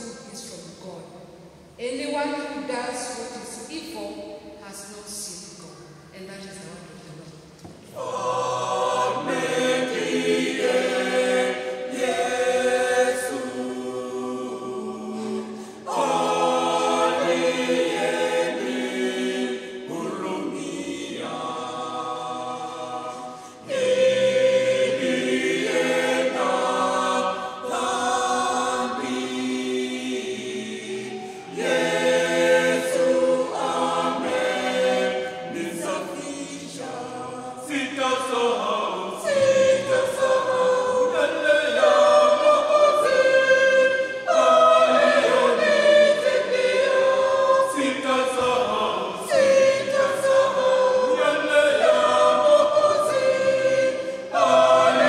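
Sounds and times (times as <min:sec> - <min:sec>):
mixed choir singing: 0:07.6 - 0:55.0.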